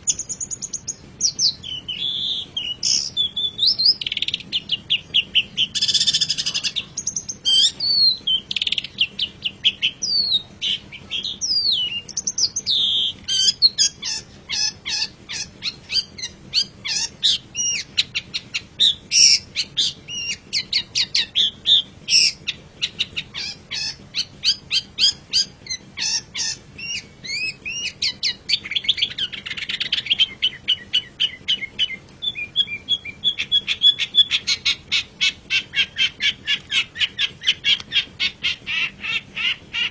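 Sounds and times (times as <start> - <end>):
shrike singing varied song: 0.0 - 39.9.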